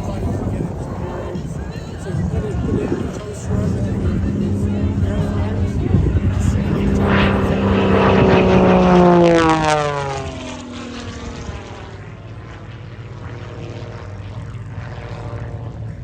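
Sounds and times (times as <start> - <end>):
propeller plane passing: 0.0 - 16.0.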